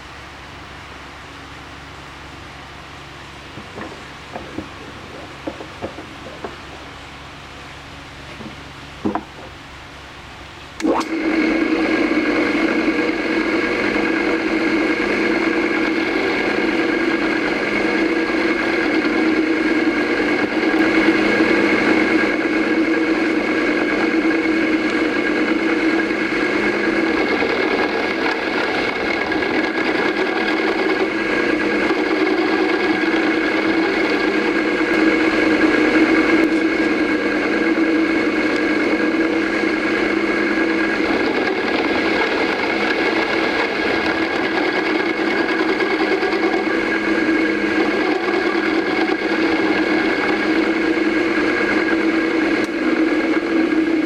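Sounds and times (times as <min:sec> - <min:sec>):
milling machine motor humming: 0:01.6 - 0:09.7, 0:10.8 - 0:54.0.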